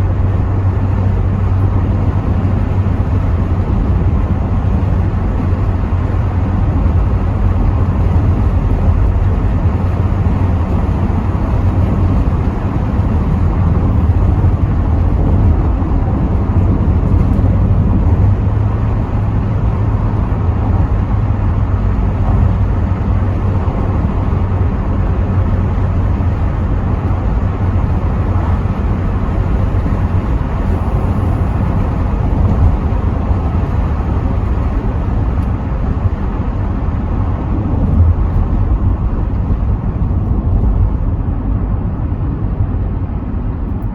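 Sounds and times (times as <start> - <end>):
engine and tyre rumble: 0.0 - 43.9
wind noise through windows: 0.0 - 43.9.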